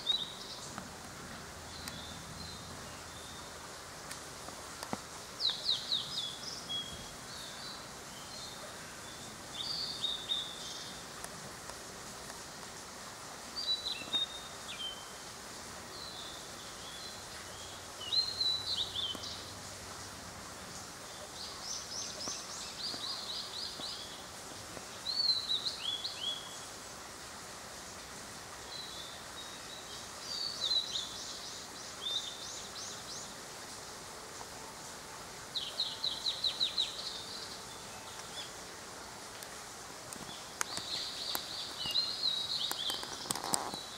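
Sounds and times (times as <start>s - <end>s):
songbirds singing: 0.0s - 12.8s, 13.4s - 43.9s
steady background hiss: 0.0s - 43.9s.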